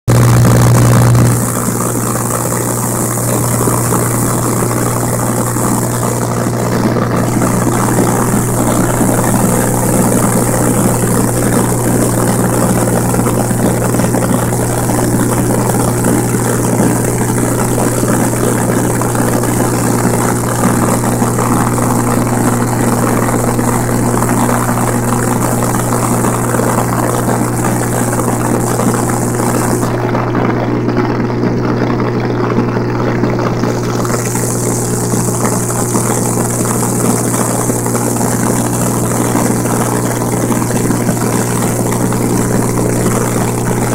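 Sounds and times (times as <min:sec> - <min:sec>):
propeller plane engine droning: 0:00.1 - 0:43.9.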